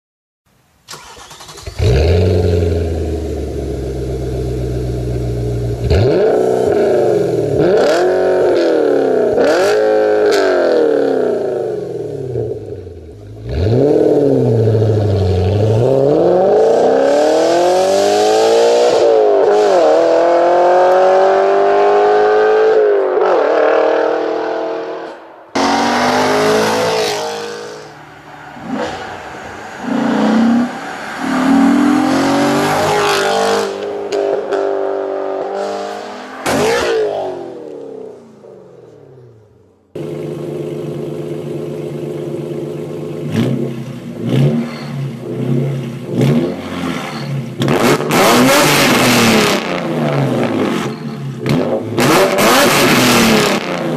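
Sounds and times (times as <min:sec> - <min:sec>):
car engine accelerating hard: 0:00.9 - 0:37.8, 0:40.0 - 0:53.9.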